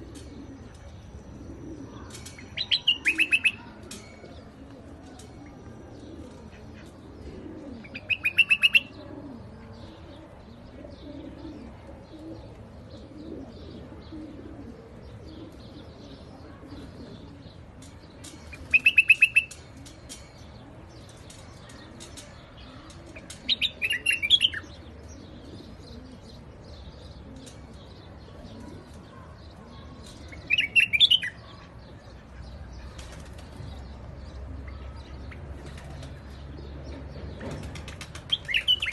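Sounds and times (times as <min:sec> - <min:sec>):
bird calling with trills and warbles: 0:00.0 - 0:38.9.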